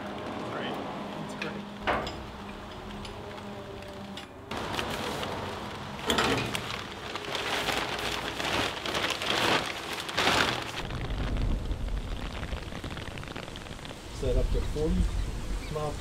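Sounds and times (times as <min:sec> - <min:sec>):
rain on a plastic tarp: 0:00.0 - 0:16.0
tarp rustling: 0:00.0 - 0:16.0.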